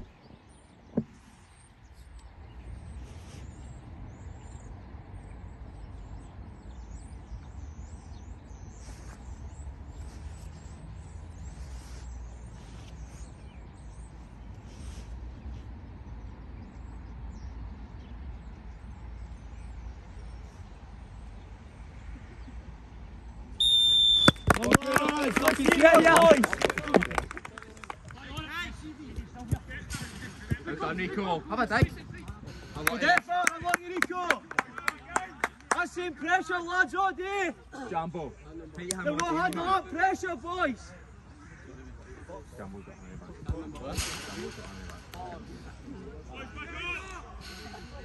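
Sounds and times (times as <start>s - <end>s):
small birds chirping: 0.0s - 23.7s, 27.2s - 48.0s.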